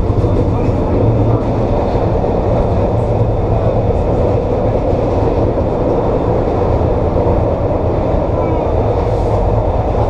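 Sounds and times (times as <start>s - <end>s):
light rail wheels on rail: 0.0s - 10.0s.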